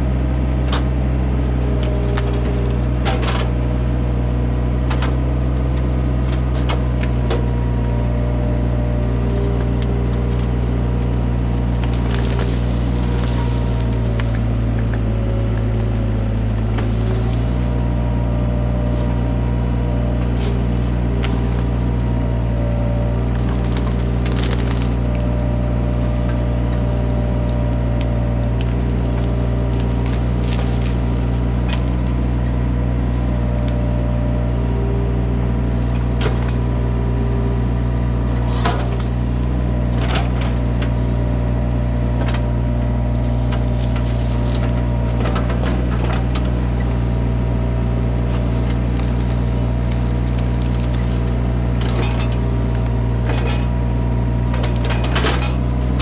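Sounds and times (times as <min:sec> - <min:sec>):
excavator diesel engine running: 0:00.0 - 0:56.0
branches and roots cracking: 0:00.6 - 0:03.6, 0:04.8 - 0:56.0.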